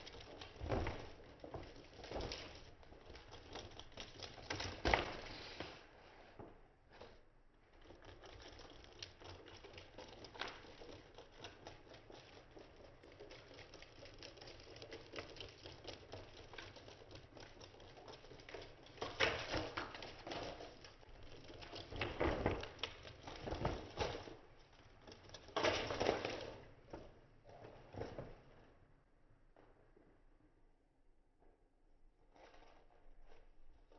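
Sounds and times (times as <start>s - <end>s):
kittens scuffling and pattering: 0.0s - 28.7s.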